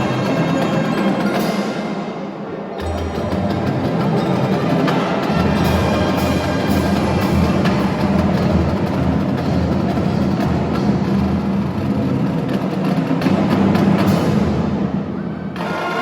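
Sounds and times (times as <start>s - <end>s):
marching band playing: 0.0s - 16.0s
marching drums and percussion: 2.8s - 16.0s.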